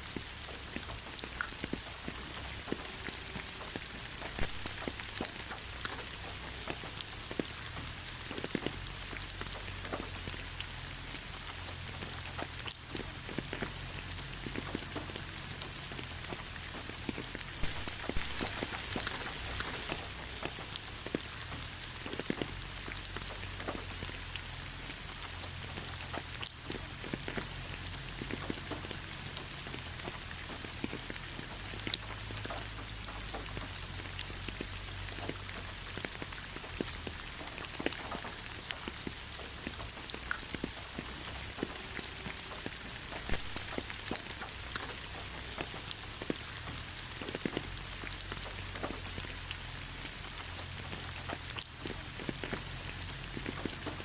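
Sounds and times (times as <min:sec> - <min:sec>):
raindrops pattering on surface: 0:00.0 - 0:54.0
steady rain hiss: 0:00.0 - 0:54.0.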